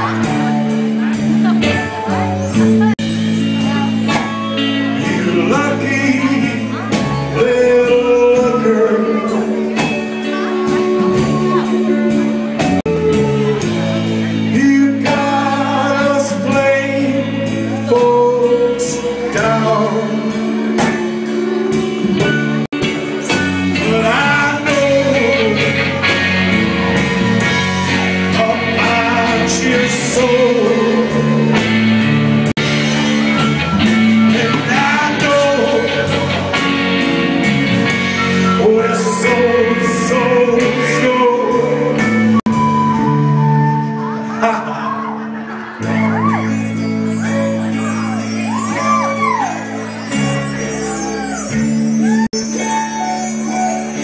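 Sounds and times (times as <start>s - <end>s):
bass guitar: 0.0s - 54.0s
drums: 0.0s - 54.0s
electric guitars: 0.0s - 54.0s
person singing: 0.0s - 54.0s.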